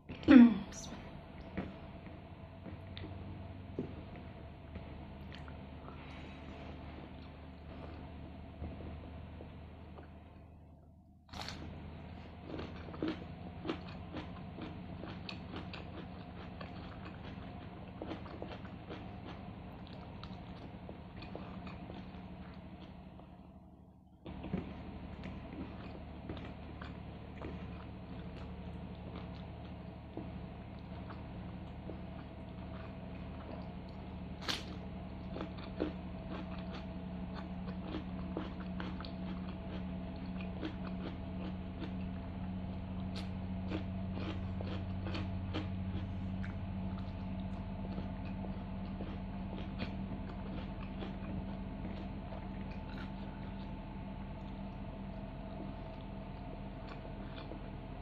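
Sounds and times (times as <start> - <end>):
steady low hum: 0.0 - 58.0
chewing and biting food: 1.4 - 10.2, 11.3 - 23.4, 24.2 - 58.0.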